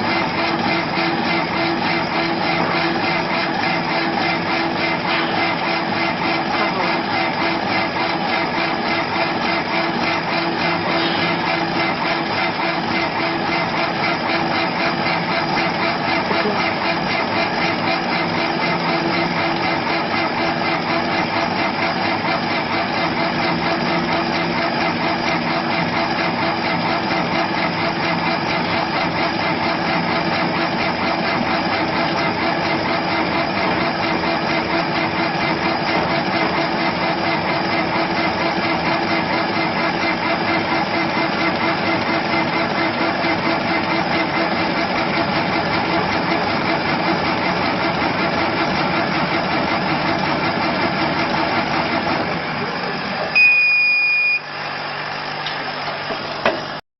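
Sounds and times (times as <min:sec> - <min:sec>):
engine idling: 0:00.0 - 0:53.4.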